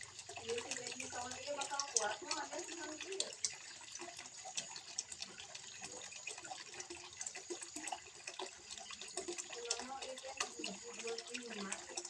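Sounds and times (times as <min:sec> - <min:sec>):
water trickling into pond: 0:00.0 - 0:12.0.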